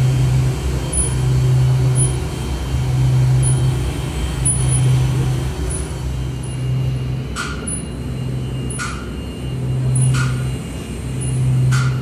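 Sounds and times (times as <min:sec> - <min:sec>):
deep pulsing drone: 0:00.0 - 0:12.0.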